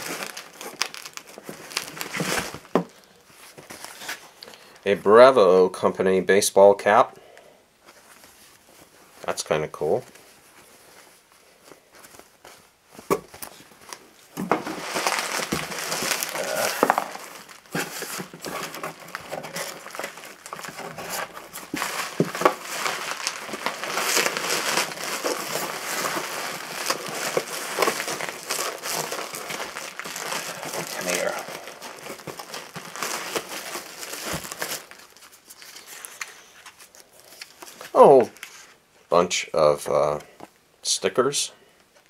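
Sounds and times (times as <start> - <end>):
bubble wrap crinkling: 0.0 - 4.9, 10.0 - 39.2.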